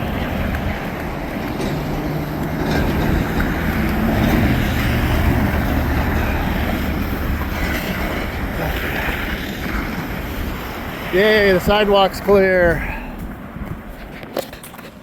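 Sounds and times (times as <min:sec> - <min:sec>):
low engine rumble: 0:00.0 - 0:14.2
road noise: 0:00.0 - 0:15.0.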